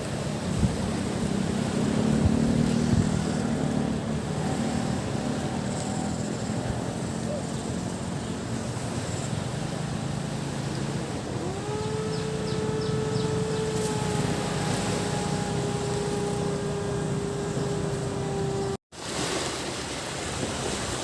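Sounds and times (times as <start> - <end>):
droning engine tone rising: 0.0 - 18.8
low motor rumble: 0.0 - 18.8
surf washing on beach: 0.0 - 21.0.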